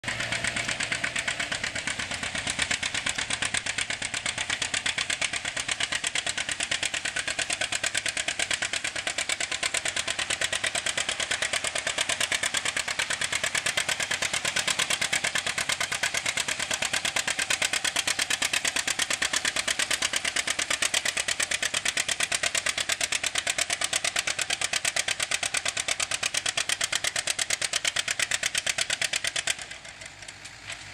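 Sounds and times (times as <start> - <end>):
tractor engine under load: 0.0 - 30.9.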